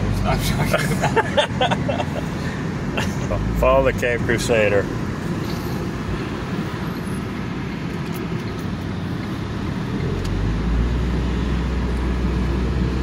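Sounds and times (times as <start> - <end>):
van engine and tyre noise: 0.0 - 13.0.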